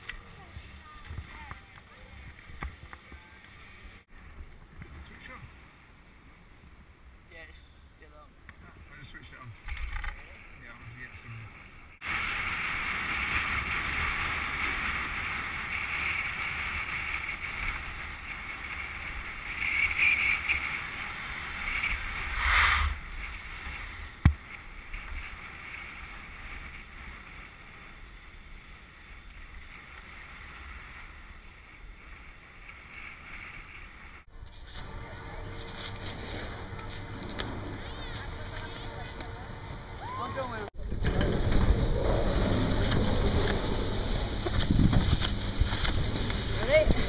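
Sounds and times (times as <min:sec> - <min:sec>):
skis sliding on packed snow: 0:00.0 - 0:04.1, 0:10.2 - 0:39.5, 0:41.7 - 0:47.0
wind rumbling on microphone: 0:08.6 - 0:47.0.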